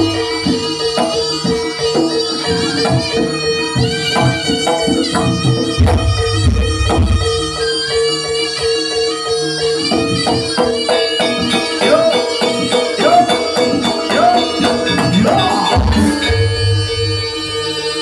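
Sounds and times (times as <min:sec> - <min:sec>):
drums and jingling percussion: 0:00.0 - 0:18.0.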